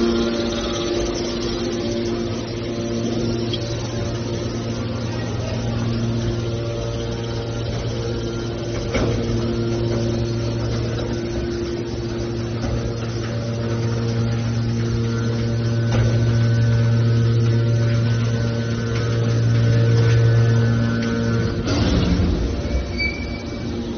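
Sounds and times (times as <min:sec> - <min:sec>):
hydraulic power unit humming: 0:00.0 - 0:23.9.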